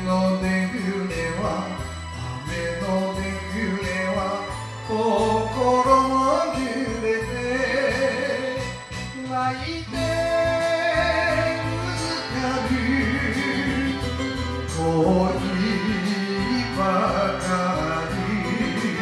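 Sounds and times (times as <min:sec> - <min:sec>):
instrumental backing music: 0:00.0 - 0:19.0
person singing: 0:00.0 - 0:19.0.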